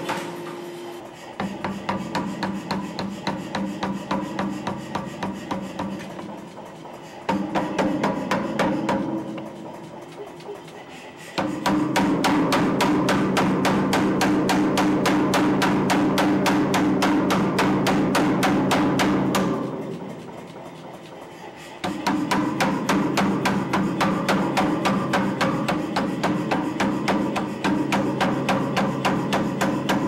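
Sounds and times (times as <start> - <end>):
power hammer pounding steel: 1.2 - 30.0.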